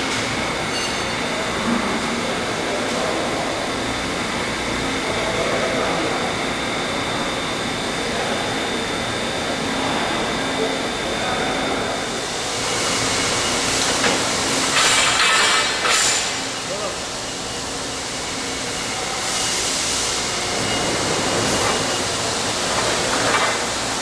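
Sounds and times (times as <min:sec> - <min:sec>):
tube-bending machine hum and hiss: 0:00.0 - 0:24.0.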